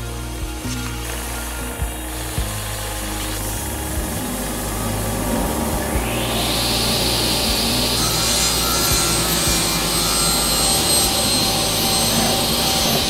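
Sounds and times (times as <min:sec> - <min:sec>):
table saw motor hum: 0:00.0 - 0:13.0
saw blade hissing through wood: 0:00.2 - 0:13.0.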